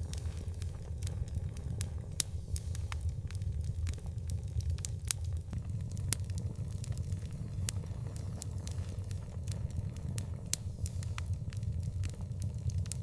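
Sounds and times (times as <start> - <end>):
open fire crackling and popping: 0.0 - 13.0.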